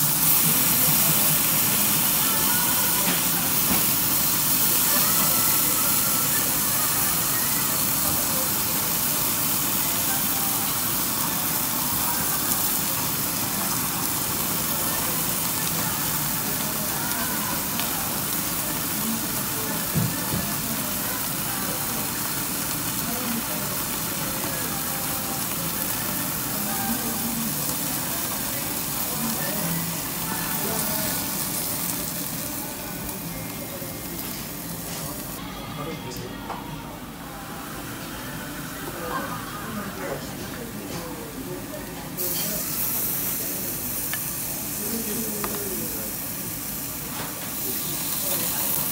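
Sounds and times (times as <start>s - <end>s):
meat sizzling on grill plate: 0.0s - 35.4s, 42.1s - 48.9s.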